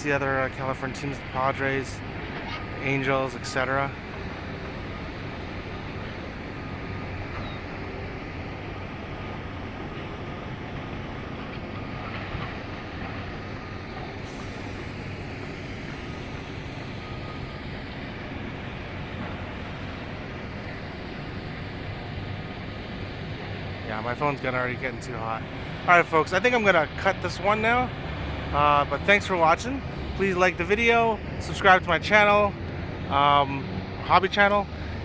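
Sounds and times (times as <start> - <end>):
traffic rumble: 0.0 - 35.0.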